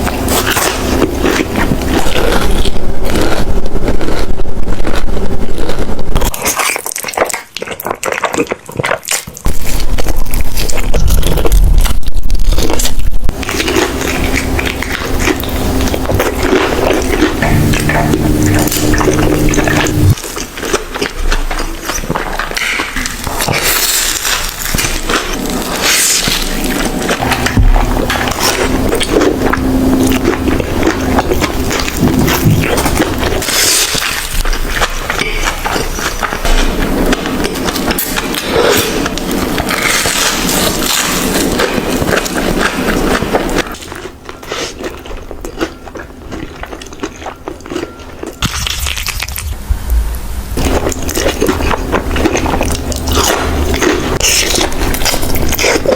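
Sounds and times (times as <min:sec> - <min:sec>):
chewing and wet mouth noises: 0:00.0 - 0:55.9.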